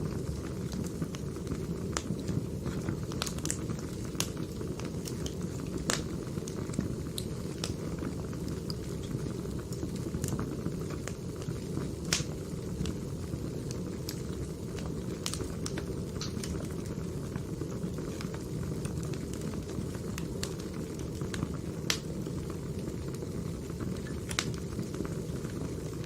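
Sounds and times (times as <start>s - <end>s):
burning wood popping and crackling: 0.0s - 26.0s
low rush of flames: 0.0s - 26.0s.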